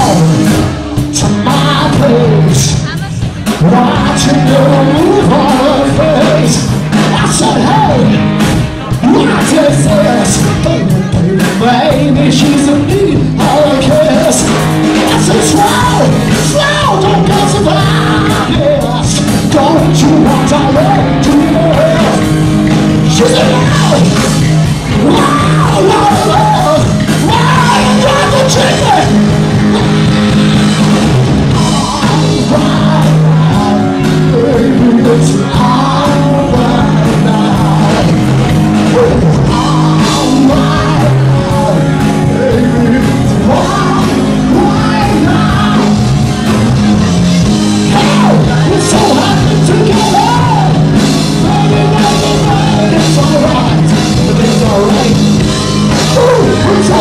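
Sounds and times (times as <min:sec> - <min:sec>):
man singing: 0:00.0 - 0:30.8, 0:31.4 - 0:57.0
rock band playing: 0:00.0 - 0:57.0.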